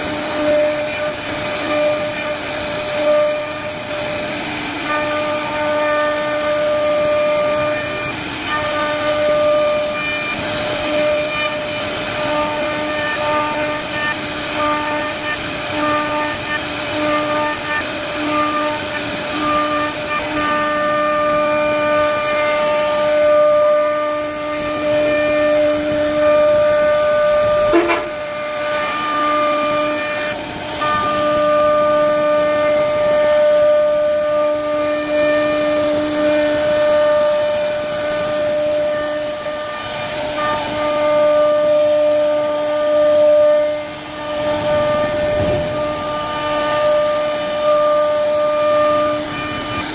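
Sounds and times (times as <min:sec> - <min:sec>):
cutter chipping through wood: 0:00.0 - 0:49.9
router spindle whining: 0:00.0 - 0:49.9.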